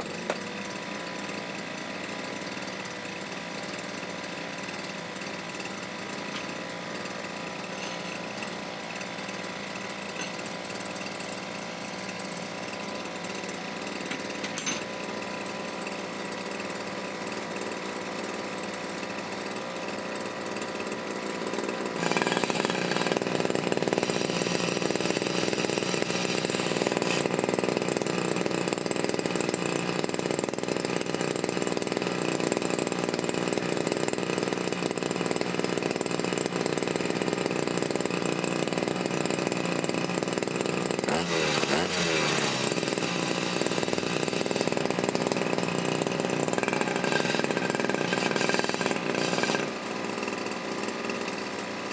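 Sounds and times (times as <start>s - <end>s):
brush cutter engine running: 0.0s - 51.9s.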